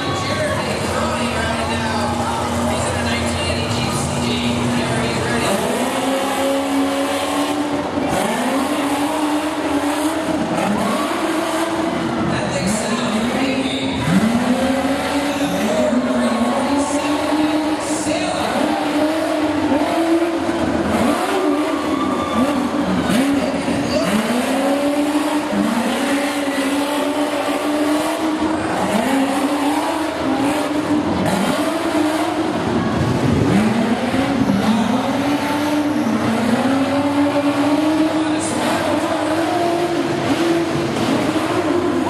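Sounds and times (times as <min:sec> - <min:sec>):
truck engine revving hard: 0:00.0 - 0:42.0.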